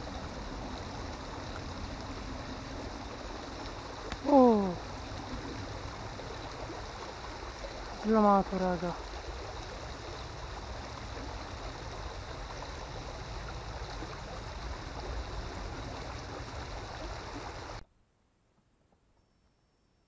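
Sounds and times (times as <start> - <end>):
water rushing in ditch: 0.0 - 17.8.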